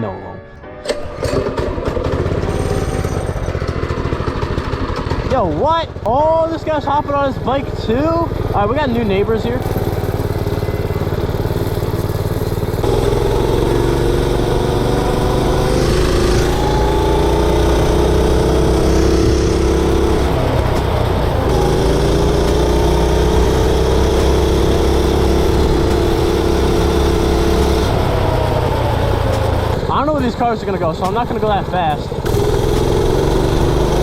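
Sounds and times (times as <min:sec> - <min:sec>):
mini bike engine under throttle: 0:00.9 - 0:30.3, 0:31.0 - 0:34.0.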